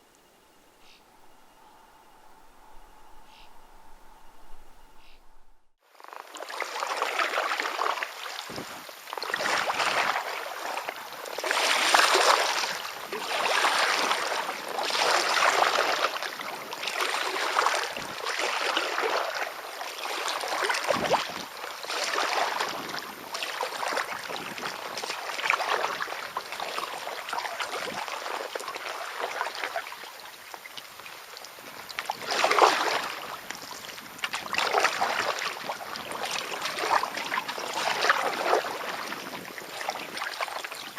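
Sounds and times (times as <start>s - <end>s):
paddle strokes splashing water: 6.0s - 40.9s.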